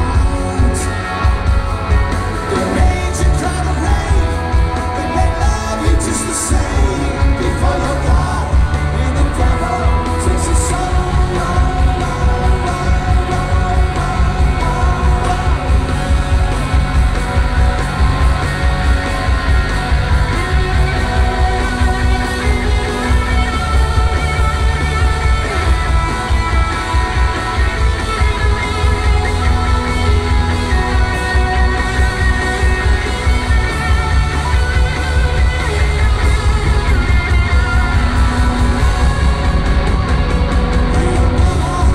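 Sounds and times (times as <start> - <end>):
lead vocal singing: 0.0 - 41.9
live rock band playing: 0.0 - 41.9.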